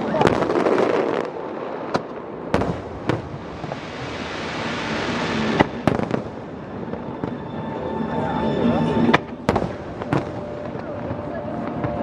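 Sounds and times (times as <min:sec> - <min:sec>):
firework bangs: 0:00.0 - 0:07.4, 0:09.1 - 0:12.0
firework crackle: 0:00.0 - 0:07.7, 0:09.0 - 0:12.0.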